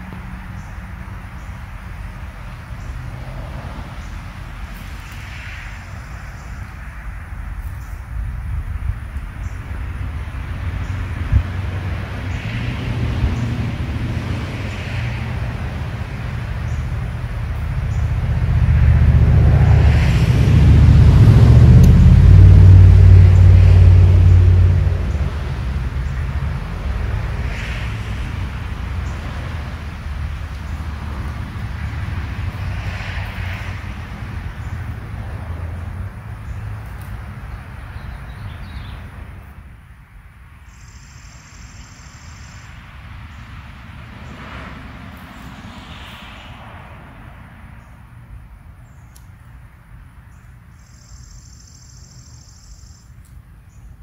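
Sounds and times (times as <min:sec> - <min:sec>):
vehicle passing with engine rumble: 0:00.0 - 0:54.0.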